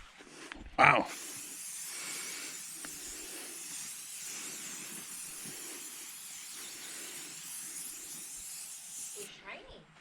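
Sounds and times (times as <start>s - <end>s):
aerosol can spraying: 1.1s - 9.3s.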